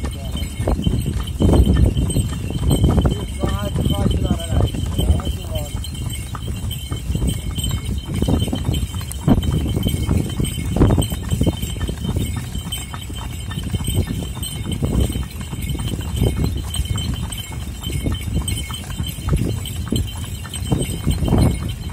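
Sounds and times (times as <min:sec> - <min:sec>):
horse hooves on pavement: 0:00.0 - 0:21.9.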